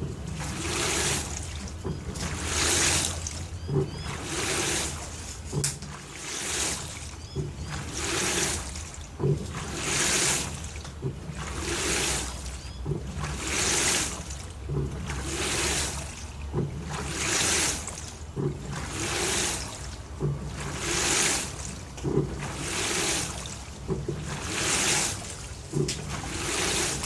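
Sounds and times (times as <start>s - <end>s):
washing machine motor hum: 0.0s - 27.0s
water swishing in washing machine: 0.0s - 27.0s.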